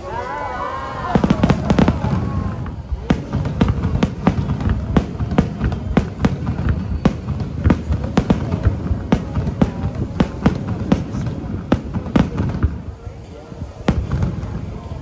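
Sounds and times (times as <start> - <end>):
fireworks bangs and cracks: 0.1 - 15.0.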